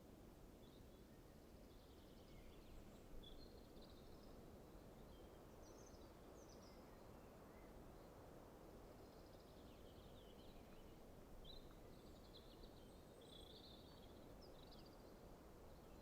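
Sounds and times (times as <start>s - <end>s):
distant songbirds chirping: 0.5s - 16.0s.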